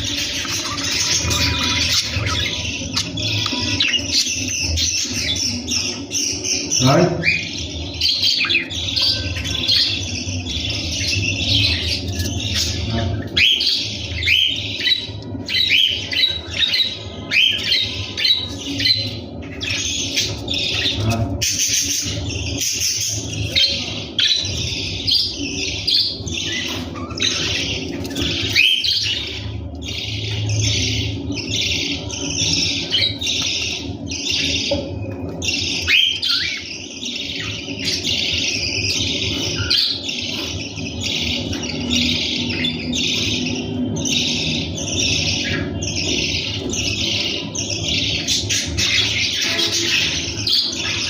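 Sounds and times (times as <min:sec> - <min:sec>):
budgerigars chattering: 0:00.0 - 0:51.0
steady low hum: 0:00.0 - 0:51.0.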